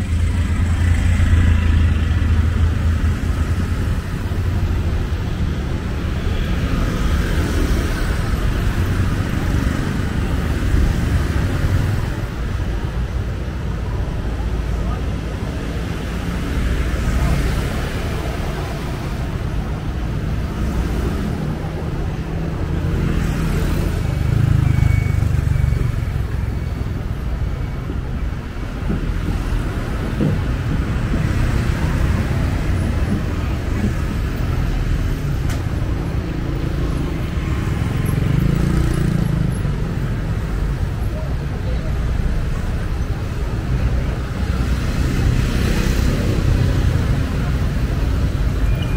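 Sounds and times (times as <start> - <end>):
motorbikes and cars passing: 0.0 - 48.9.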